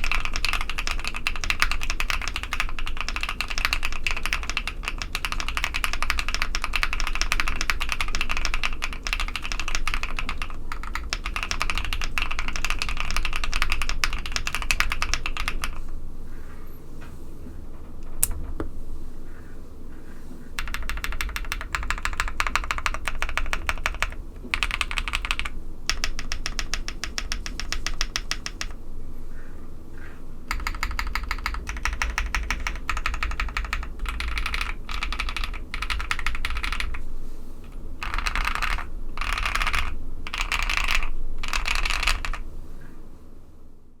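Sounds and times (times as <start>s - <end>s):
mechanical keyboard typing: 0.0s - 15.9s, 20.6s - 28.8s, 30.5s - 37.0s, 37.6s - 42.4s.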